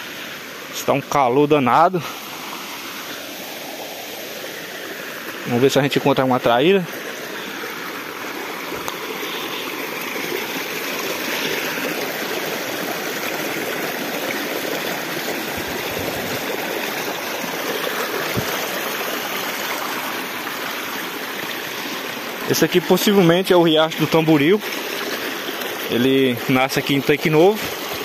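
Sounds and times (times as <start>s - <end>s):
creek water flowing: 0.0s - 28.0s.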